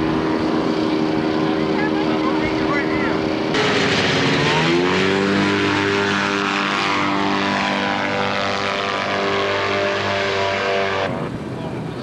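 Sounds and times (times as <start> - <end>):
light aircraft engine and propeller: 0.0 - 12.0.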